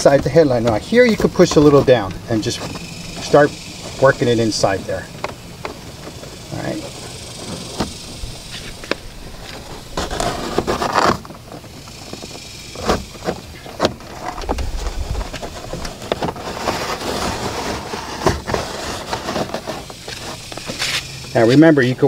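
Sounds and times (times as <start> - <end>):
cable and trim clicks and rustles: 0.0 - 21.7
outdoor background noise: 0.0 - 22.0.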